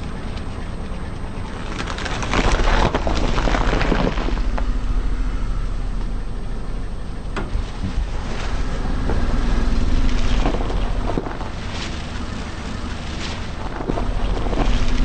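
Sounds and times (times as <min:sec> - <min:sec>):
car engine and tyres rumbling: 0:00.0 - 0:15.0
tyre crushing brittle objects: 0:01.6 - 0:06.1, 0:07.5 - 0:15.0.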